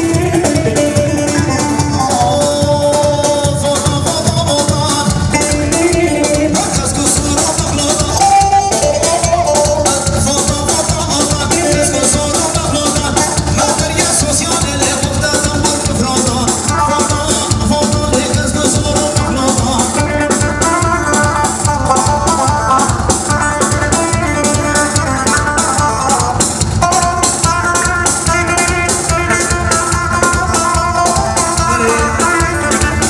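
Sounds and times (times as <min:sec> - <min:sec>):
band playing dance music: 0:00.0 - 0:33.0
fast drum beat: 0:00.0 - 0:33.0.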